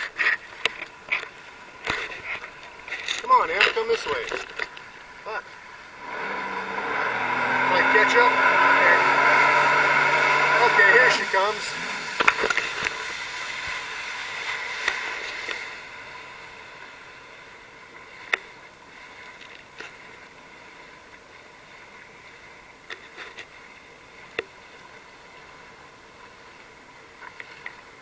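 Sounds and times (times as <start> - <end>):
rushing water wash: 0.0 - 28.0
small waves lapping against hull: 0.0 - 28.0.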